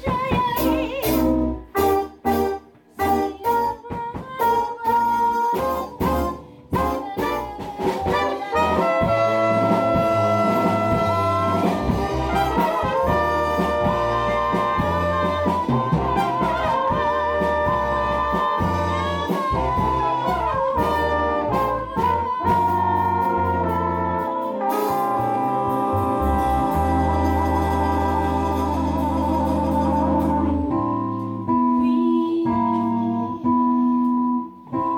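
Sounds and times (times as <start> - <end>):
jazz band playing bossa nova: 0.0 - 34.9.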